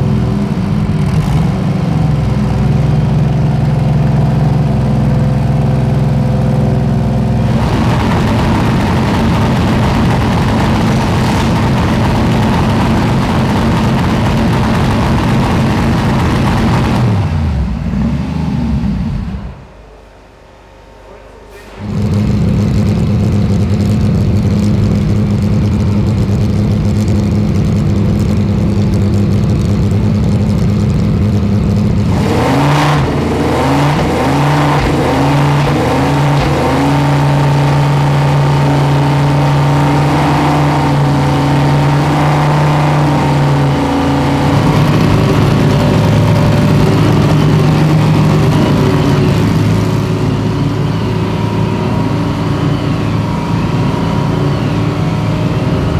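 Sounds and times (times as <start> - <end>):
race car engines revving: 0.0 - 19.7, 21.7 - 55.9.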